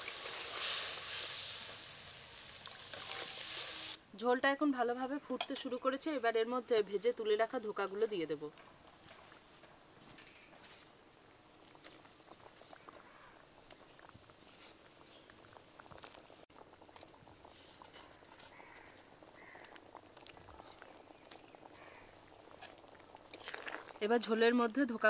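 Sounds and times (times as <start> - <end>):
gravy boiling with bubbles popping: 0.0 - 4.0, 6.9 - 25.0.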